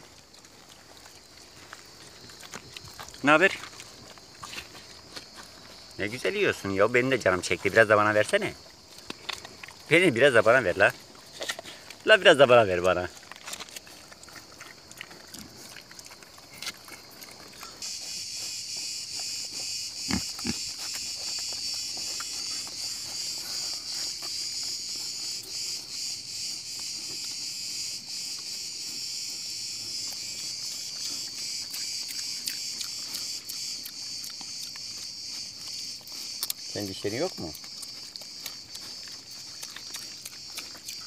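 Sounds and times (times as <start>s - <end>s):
boars chewing and snuffling: 0.0s - 41.0s
high-pitched insect chorus: 0.0s - 41.0s.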